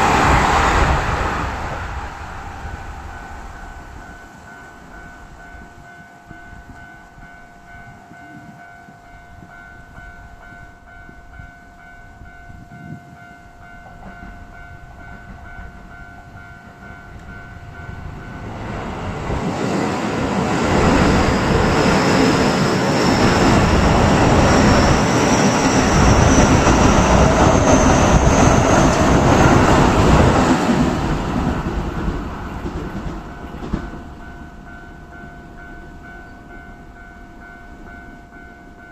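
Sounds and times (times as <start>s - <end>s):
electric train passing with whine: 0.0s - 38.9s
level crossing warning bell: 3.1s - 30.8s, 32.0s - 38.9s.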